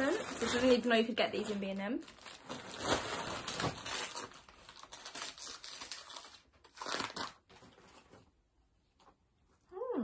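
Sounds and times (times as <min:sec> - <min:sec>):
wrapping paper crinkling and tearing: 0:00.0 - 0:08.2.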